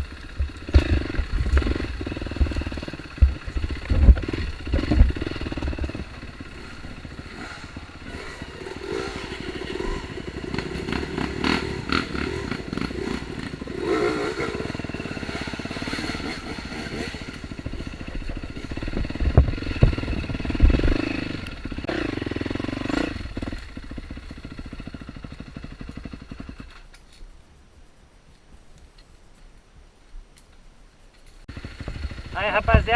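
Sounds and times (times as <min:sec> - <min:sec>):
dirt bike engine revving: 0:00.0 - 0:26.9, 0:31.5 - 0:32.9.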